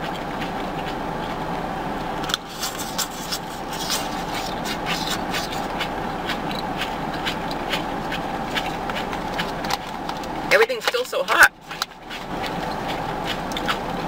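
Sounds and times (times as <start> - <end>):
chewing clicks and smacks: 0.0 - 14.0
steady background hum: 0.0 - 14.0.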